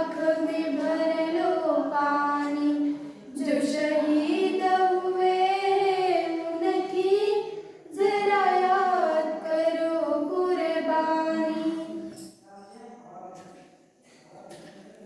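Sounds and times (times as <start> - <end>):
girls singing slow melody: 0.0 - 12.3.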